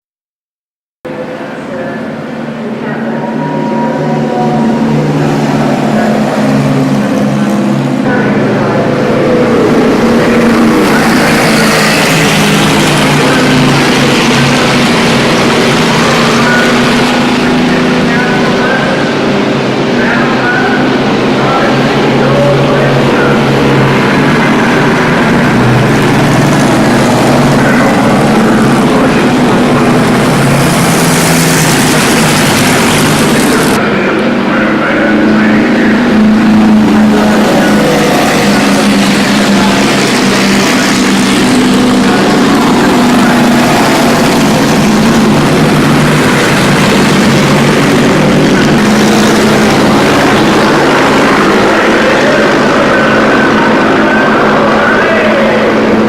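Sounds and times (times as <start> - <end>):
race car engine running: 1.0 - 56.0.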